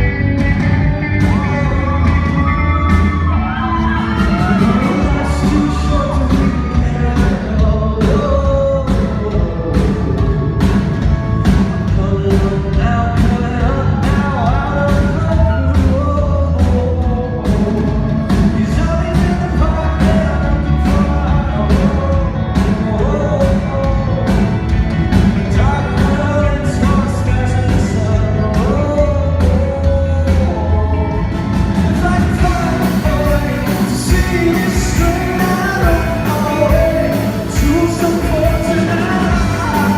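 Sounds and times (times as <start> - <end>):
live rock band: 0.0 - 39.9
man singing: 0.0 - 39.9.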